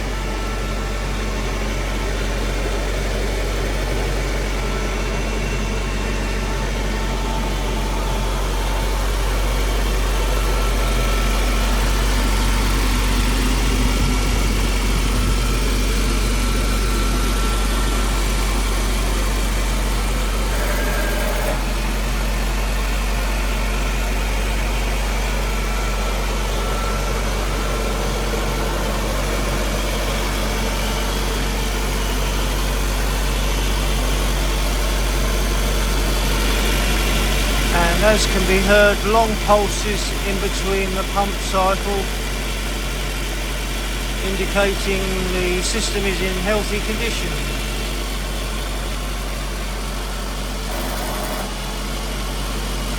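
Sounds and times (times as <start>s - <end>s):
car engine idling: 0.0s - 52.9s
hydraulic pump pulsing: 0.0s - 52.9s.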